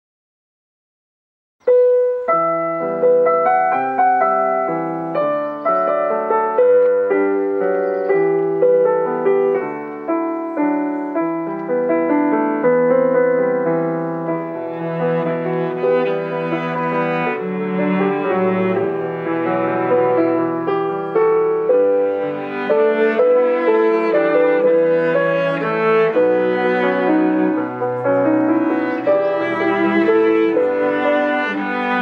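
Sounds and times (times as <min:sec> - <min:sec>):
digital piano classical melody: 0:01.6 - 0:32.0.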